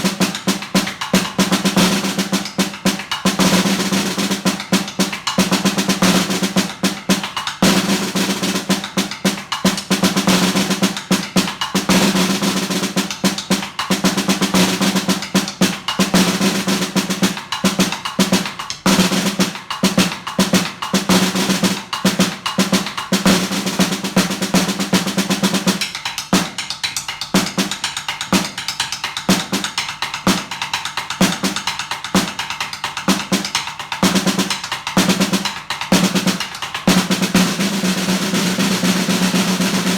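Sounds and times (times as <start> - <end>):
snare drum rolls: 0.0 - 39.9.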